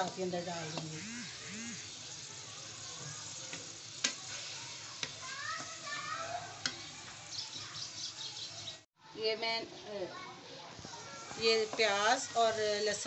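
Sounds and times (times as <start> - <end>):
onion and garlic sizzling in oil: 0.0 - 13.0.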